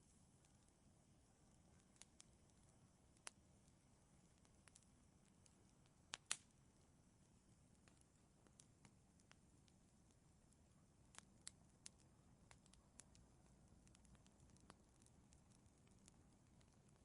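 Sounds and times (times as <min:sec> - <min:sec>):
faint low hiss: 0:00.0 - 0:17.0
wood fire crackling and popping: 0:00.2 - 0:17.0.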